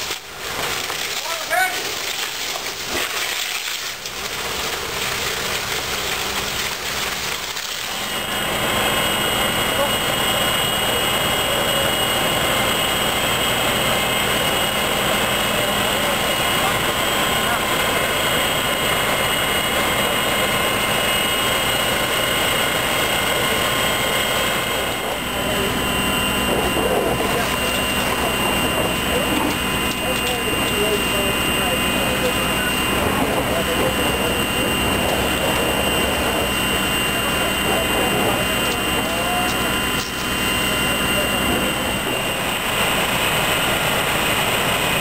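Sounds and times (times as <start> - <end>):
fire engine engine running: 0.0 - 45.0
machine drone with high whine: 0.0 - 45.0.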